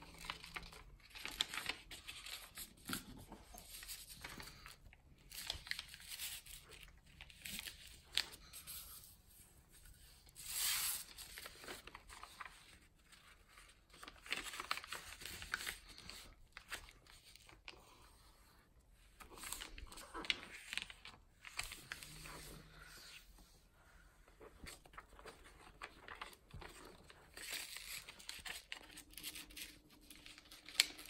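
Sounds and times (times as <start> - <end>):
paper rustling and crinkling: 0.0 - 18.2, 19.2 - 23.3, 24.3 - 31.0.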